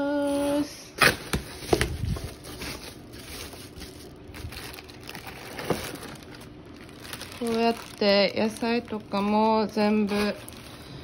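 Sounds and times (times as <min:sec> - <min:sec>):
plastic packaging rustling: 0:00.1 - 0:11.0.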